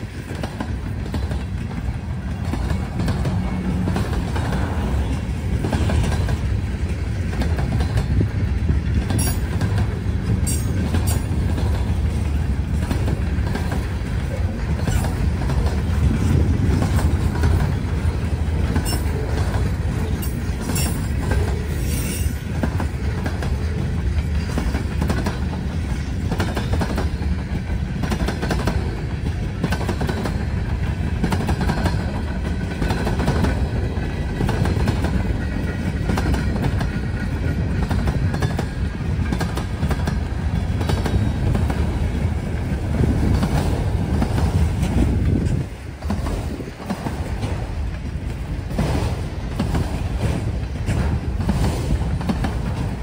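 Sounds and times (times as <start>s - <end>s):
freight train rumble: 0.0s - 53.0s
wheels clicking over rail joints: 0.0s - 53.0s.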